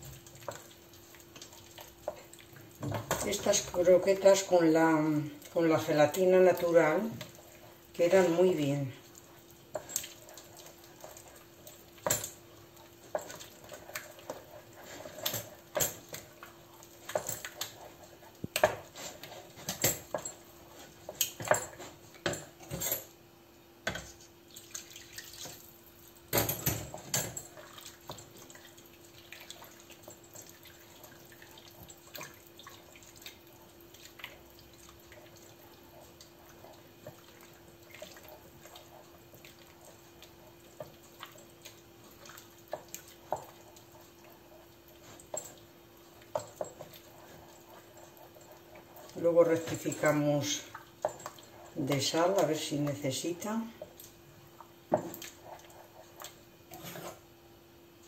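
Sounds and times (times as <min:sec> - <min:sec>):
wooden spoon stirring thick sauce: 0:00.0 - 0:22.6, 0:23.8 - 0:57.4
faint steady hum: 0:00.0 - 0:58.0.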